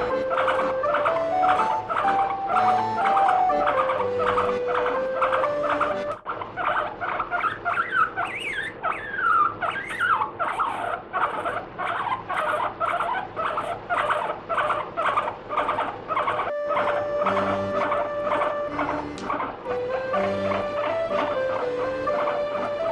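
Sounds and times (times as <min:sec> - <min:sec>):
guinea pig squealing: 0:00.0 - 0:22.9.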